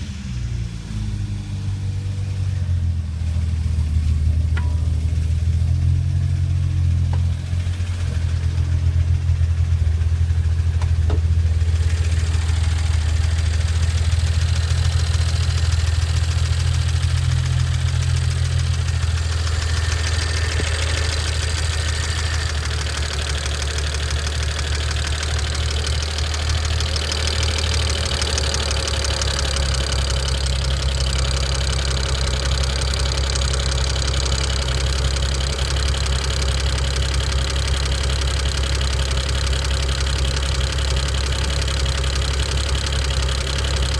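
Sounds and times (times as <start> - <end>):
car engine running: 0.0 - 43.9
loud fast engine ticking: 3.1 - 43.9.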